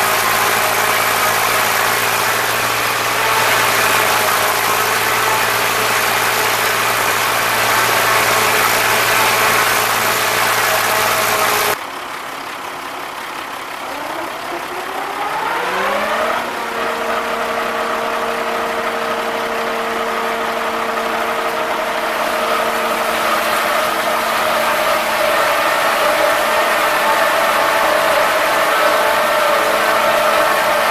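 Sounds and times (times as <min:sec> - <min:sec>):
tractor engine revving up: 0:00.0 - 0:30.9
tractor engine running: 0:00.0 - 0:30.9.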